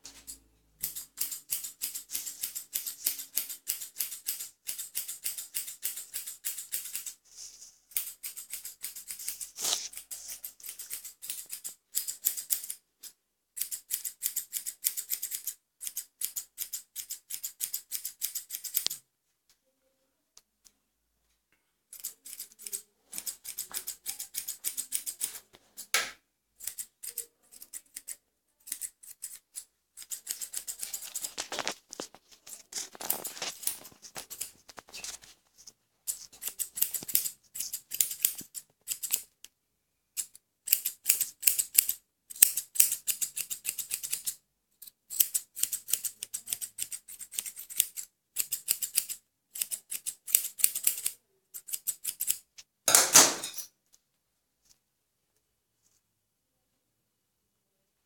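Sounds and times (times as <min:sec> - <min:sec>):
shears snipping hair: 0:00.0 - 0:12.8, 0:13.6 - 0:19.0, 0:22.0 - 0:35.4, 0:36.0 - 0:39.4, 0:40.2 - 0:53.4.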